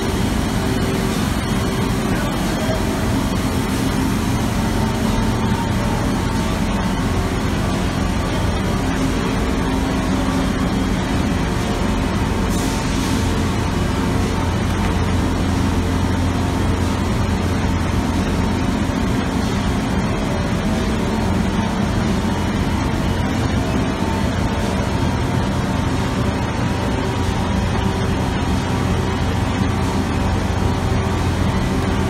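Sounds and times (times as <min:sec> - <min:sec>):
industrial machinery drone: 0:00.0 - 0:32.0.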